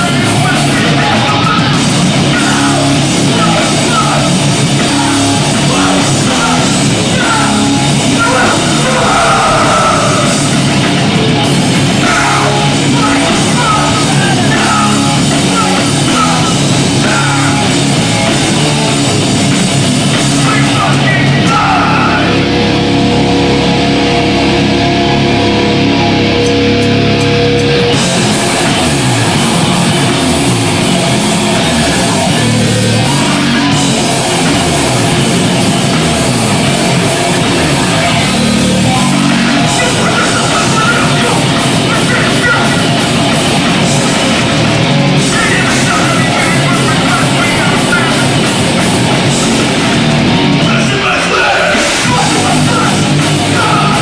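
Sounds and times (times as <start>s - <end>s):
shouted vocals: 0.0s - 22.9s, 28.1s - 54.0s
punk band playing live: 0.0s - 54.0s.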